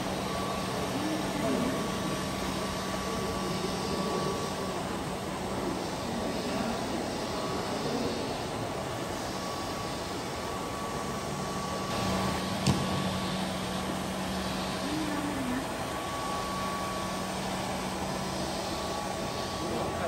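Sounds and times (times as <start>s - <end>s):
floor-scrubbing robot motors humming: 0.0s - 20.0s.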